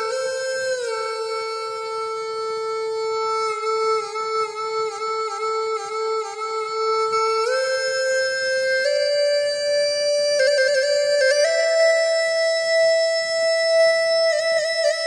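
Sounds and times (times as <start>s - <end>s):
reed pipe slow melody: 0.0s - 15.0s.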